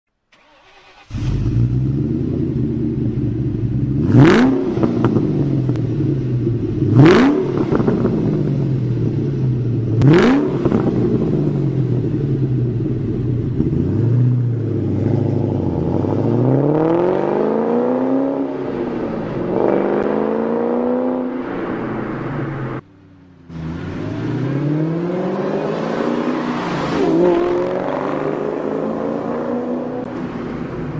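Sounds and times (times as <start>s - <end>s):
car engine revving: 0.4s - 30.9s.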